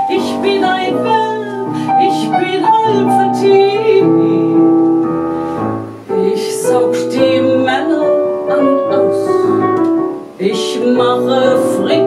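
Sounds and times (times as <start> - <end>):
woman singing: 0.0 - 4.9, 6.1 - 12.0
piano chords: 0.0 - 12.0.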